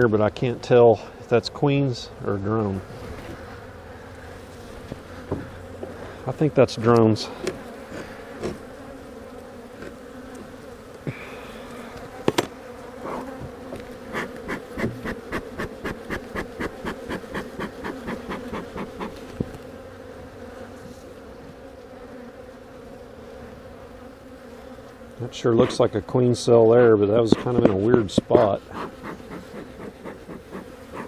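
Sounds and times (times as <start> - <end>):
bees buzzing: 2.1 - 31.0.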